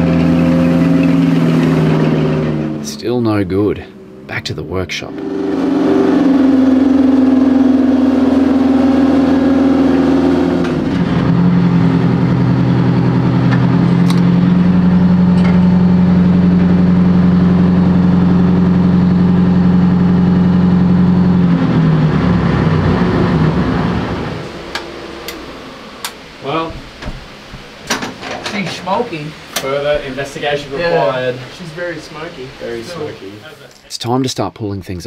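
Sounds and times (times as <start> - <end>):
diesel engine running: 0.0 - 33.4.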